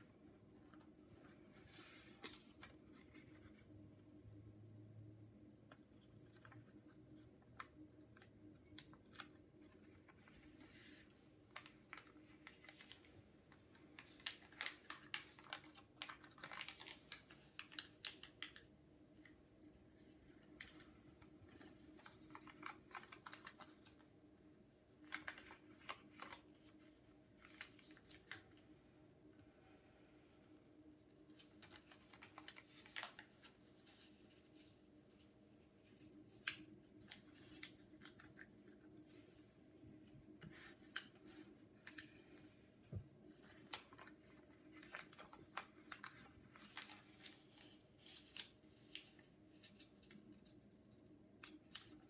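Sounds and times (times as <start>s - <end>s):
paper being folded and creased: 0.0s - 3.8s, 5.7s - 24.2s, 24.9s - 28.7s, 31.2s - 42.6s, 43.2s - 52.0s.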